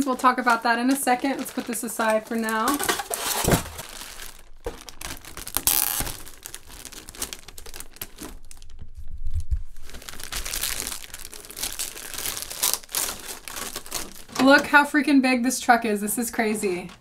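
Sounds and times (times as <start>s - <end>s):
plastic wrapping crinkling: 0.0s - 15.1s, 16.0s - 17.0s.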